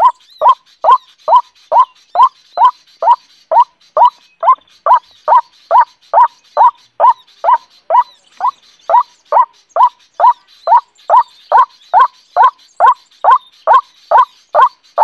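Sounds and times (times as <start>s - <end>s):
waterhen croaking calls: 0.0s - 14.8s.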